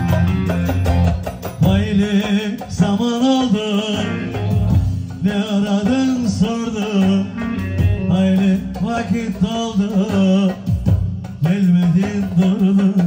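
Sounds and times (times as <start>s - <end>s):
man singing: 1.4s - 13.0s.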